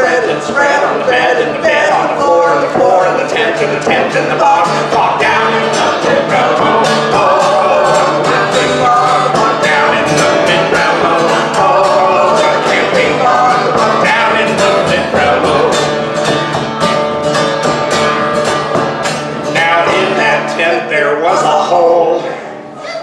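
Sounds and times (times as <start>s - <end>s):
man and woman singing: 0.0s - 16.0s, 19.5s - 22.6s
strummed acoustic guitar: 0.0s - 23.0s.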